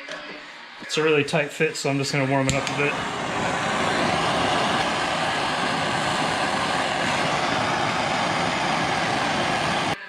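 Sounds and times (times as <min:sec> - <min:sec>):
heat gun blowing: 0:01.9 - 0:10.0.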